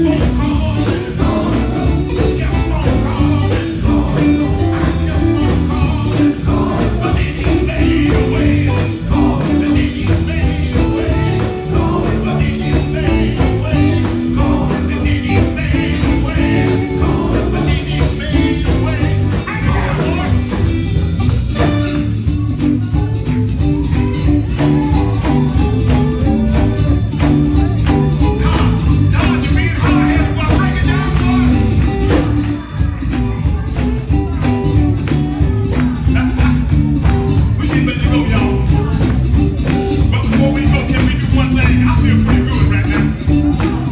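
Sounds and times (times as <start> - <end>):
busy tambourine: 0.0 - 43.9
gospel band music: 0.0 - 43.9
low bass line: 0.0 - 43.9
voices singing: 0.0 - 43.9.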